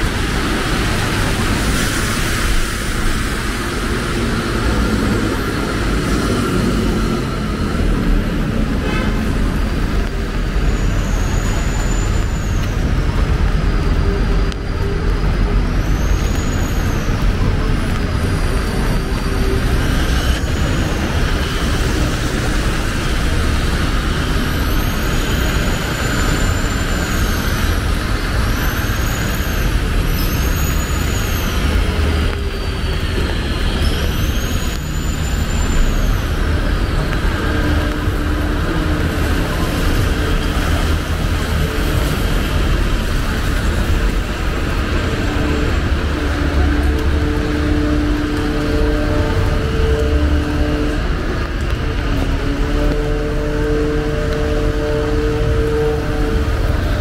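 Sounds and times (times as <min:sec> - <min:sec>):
traffic rumble: 0:00.0 - 0:57.0
tyres hissing on wet road: 0:00.0 - 0:57.0.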